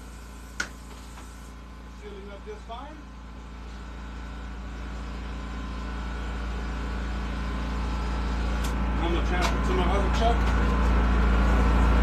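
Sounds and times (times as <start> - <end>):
air compressor engine running: 0.0 - 12.0.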